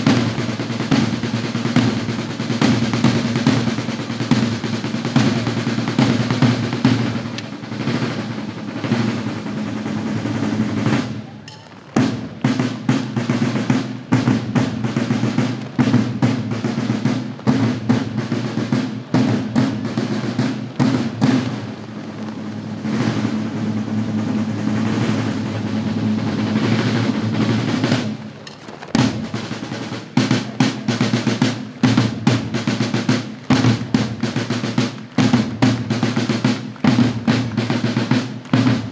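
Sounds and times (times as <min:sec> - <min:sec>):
snare drum rolls and cadences: 0:00.0 - 0:38.9.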